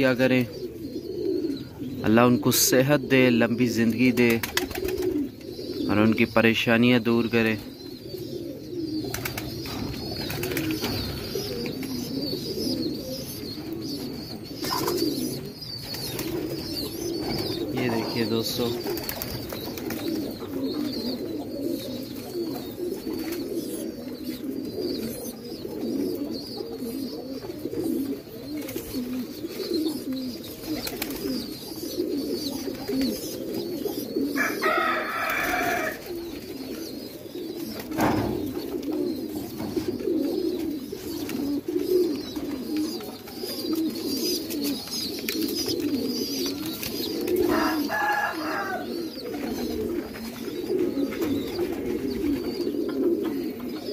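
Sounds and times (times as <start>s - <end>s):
pigeons cooing: 0.0s - 53.9s.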